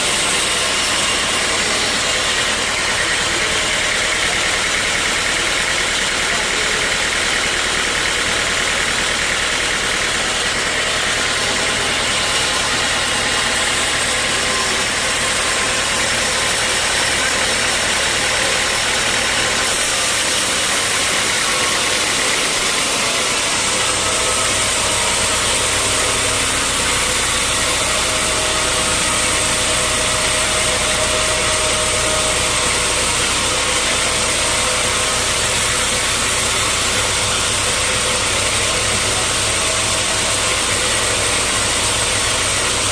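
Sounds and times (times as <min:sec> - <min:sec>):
sawmill engine drone: 0:00.0 - 0:42.9.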